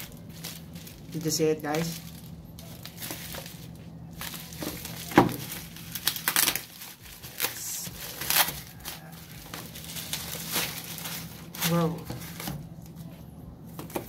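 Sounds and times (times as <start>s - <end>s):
plastic wrapping crinkling and tearing: 0.0s - 14.0s.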